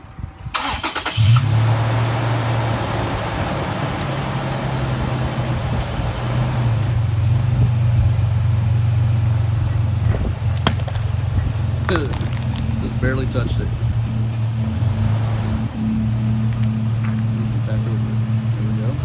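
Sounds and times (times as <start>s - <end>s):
pickup engine idling: 0.5s - 19.0s.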